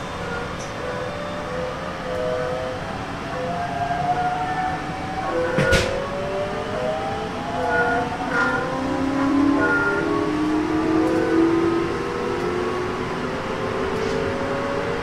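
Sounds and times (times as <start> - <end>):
train inverter whine rising: 0.0 - 15.0
train wheels rumbling on rails: 0.0 - 15.0.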